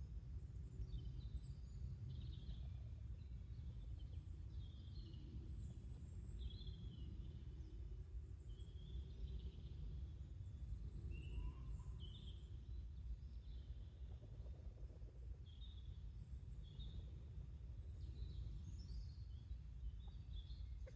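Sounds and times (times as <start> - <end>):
faint low background rumble: 0.0 - 20.9.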